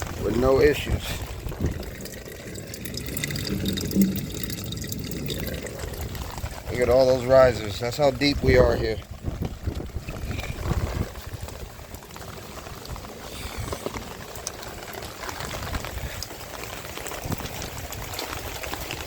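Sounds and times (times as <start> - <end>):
rain falling: 0.0 - 19.0
water running and trickling: 0.0 - 19.0.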